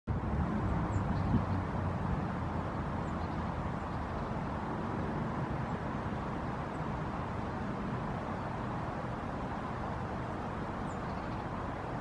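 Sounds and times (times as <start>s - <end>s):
distant road traffic rumble: 0.1s - 12.0s.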